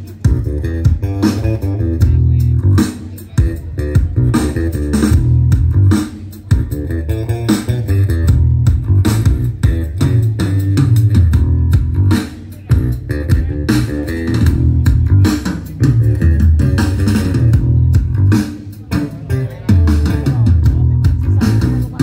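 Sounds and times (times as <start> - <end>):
bass guitar: 0.0 - 22.0
recorded music over loudspeaker: 0.0 - 22.0.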